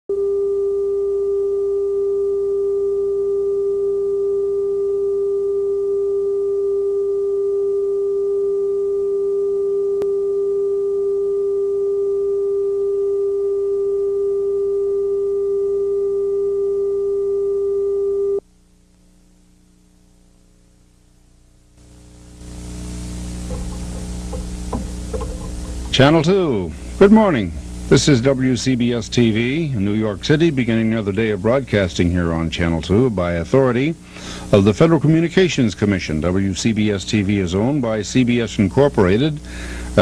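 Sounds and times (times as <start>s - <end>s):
faint low hum: 0.1s - 40.0s.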